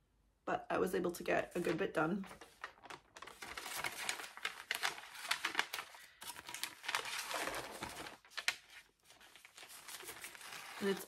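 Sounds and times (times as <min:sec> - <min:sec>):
fabric crinkling and rustling: 0:01.5 - 0:11.0.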